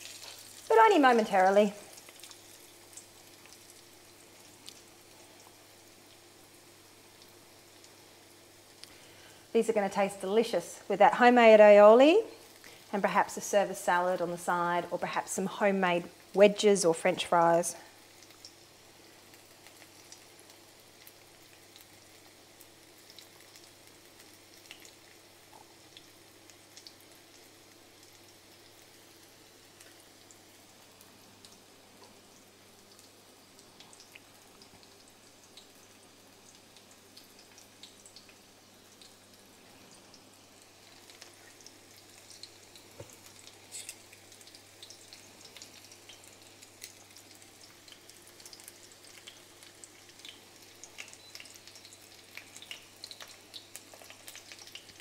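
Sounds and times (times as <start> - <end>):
oil crackling and popping: 0.0 - 6.5, 7.1 - 9.4, 12.1 - 13.0, 17.6 - 55.0
fish frying in oil: 0.0 - 55.0.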